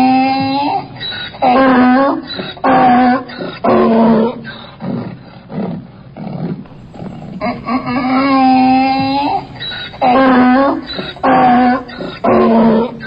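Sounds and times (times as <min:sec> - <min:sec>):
donkey braying: 0:00.0 - 0:04.9, 0:06.7 - 0:13.0.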